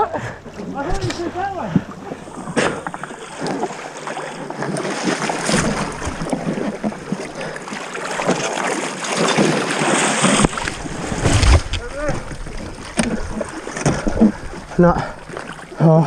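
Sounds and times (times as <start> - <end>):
water splashing around a boat: 0.0 - 16.0.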